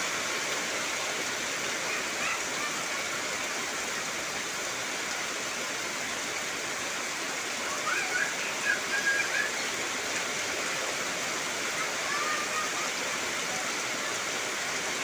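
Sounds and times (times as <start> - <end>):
heavy rain on foliage: 0.0 - 15.0.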